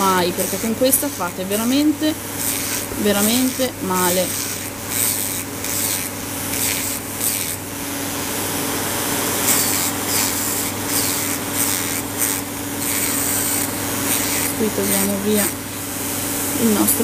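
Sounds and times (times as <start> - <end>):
nail drill grinding: 0.0 - 7.8, 9.2 - 15.8.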